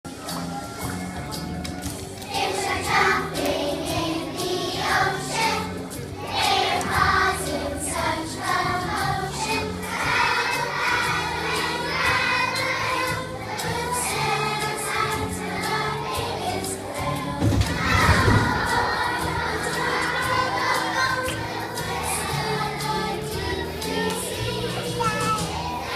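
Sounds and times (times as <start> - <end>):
children singing: 2.3 - 25.9.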